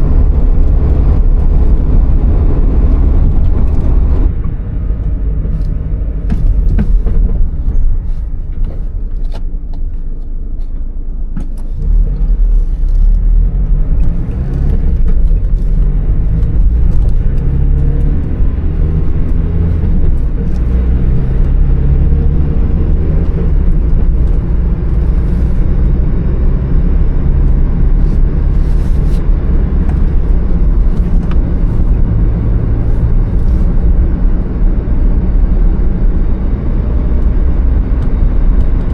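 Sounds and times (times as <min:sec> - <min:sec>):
car engine drone: 0:00.0 - 0:38.9
road rumble: 0:00.0 - 0:38.9.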